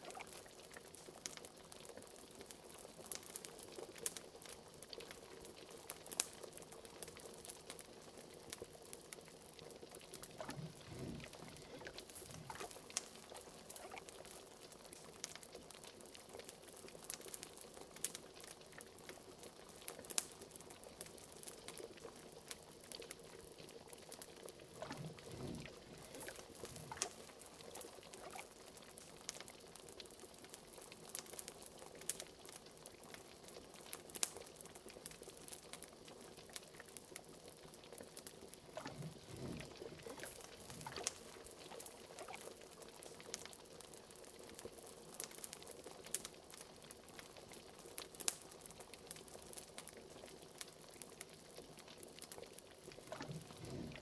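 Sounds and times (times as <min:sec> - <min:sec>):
liquid bubbling in a cauldron: 0:00.0 - 0:54.0
wood fire crackling: 0:00.0 - 0:54.0.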